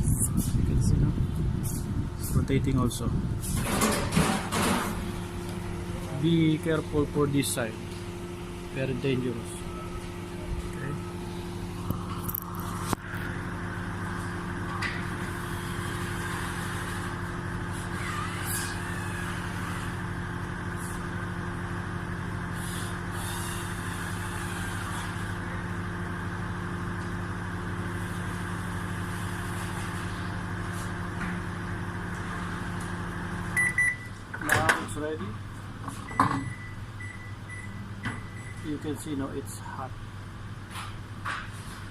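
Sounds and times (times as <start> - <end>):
microwave oven humming: 0.0 - 41.9.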